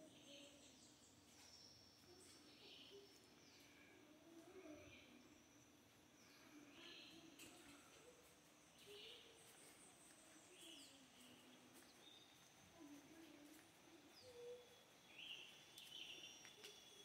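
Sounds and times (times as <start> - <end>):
distant bird chirps: 0.0 - 17.0
faint high-pitched hum: 0.0 - 17.0.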